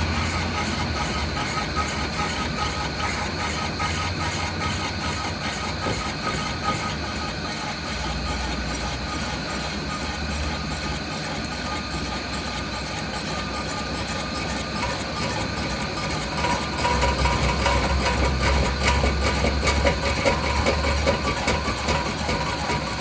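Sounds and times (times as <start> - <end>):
steady machine tone: 0.0 - 23.0
workshop machinery rumbling: 0.0 - 23.0.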